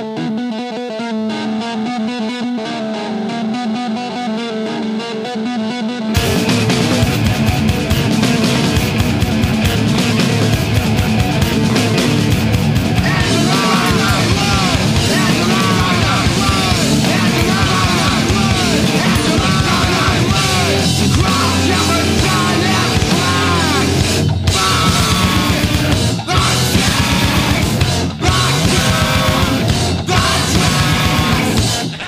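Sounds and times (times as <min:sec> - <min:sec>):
distorted guitars: 0:00.0 - 0:32.0
drums: 0:00.0 - 0:32.0.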